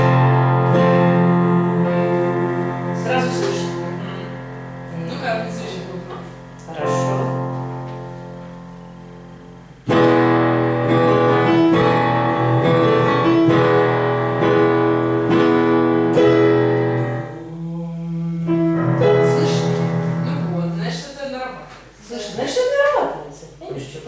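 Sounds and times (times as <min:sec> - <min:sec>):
piano playing chords: 0:00.0 - 0:21.4.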